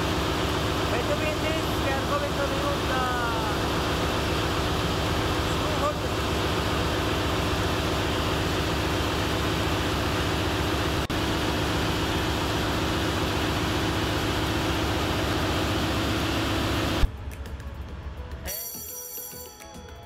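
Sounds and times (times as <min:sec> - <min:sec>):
engine-room machinery hum and hiss: 0:00.0 - 0:18.5.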